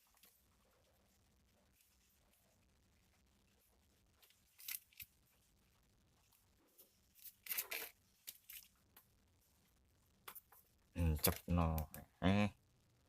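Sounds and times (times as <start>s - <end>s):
faint scratchy rustles and clicks: 0.0s - 12.1s.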